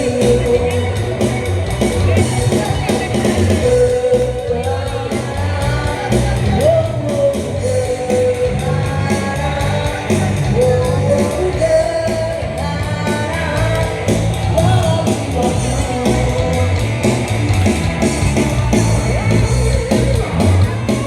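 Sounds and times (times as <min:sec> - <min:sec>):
drums steady beat: 0:00.0 - 0:21.0
person singing rock song: 0:00.0 - 0:21.0
rock band playing: 0:00.0 - 0:21.0.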